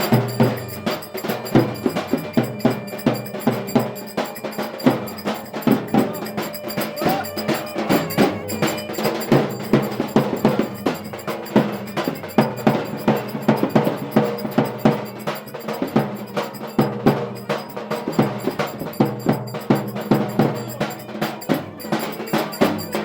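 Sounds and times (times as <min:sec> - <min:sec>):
quick busy percussion: 0:00.0 - 0:23.0.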